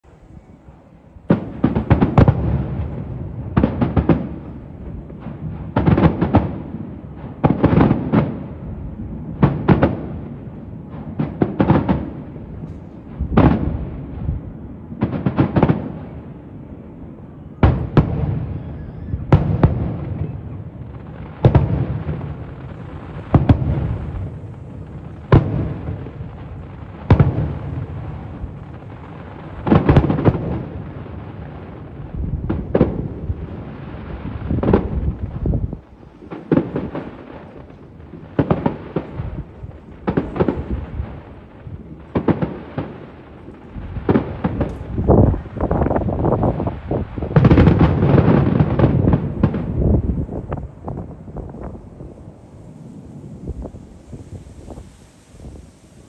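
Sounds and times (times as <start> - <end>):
fireworks bursting with booms: 0.1 - 56.0.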